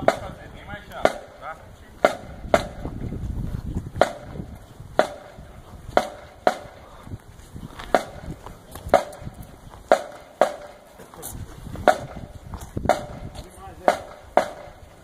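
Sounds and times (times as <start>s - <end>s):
marching percussion clicks: 0.0s - 3.1s, 3.9s - 6.8s, 7.8s - 11.2s, 11.8s - 15.0s.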